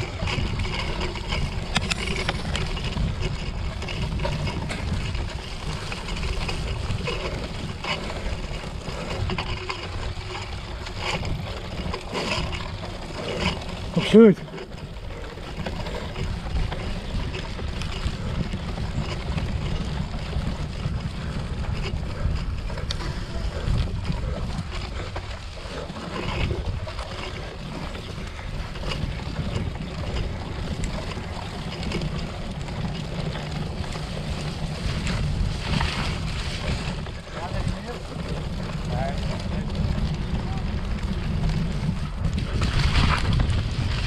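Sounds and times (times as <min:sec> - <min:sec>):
bike clicks and rattles: 0:00.0 - 0:44.0
wind buffeting microphone: 0:00.0 - 0:44.0.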